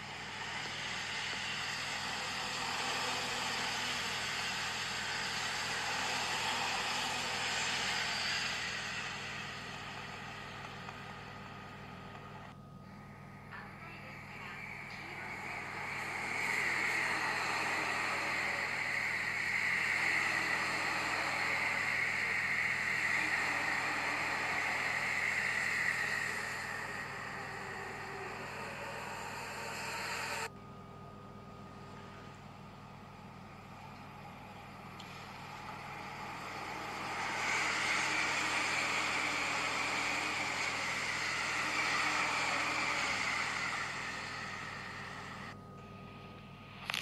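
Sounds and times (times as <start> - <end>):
train wheels rushing on rail: 0.0 - 12.3, 14.0 - 30.5, 34.9 - 45.6
train approaching: 0.0 - 30.5, 31.6 - 45.6.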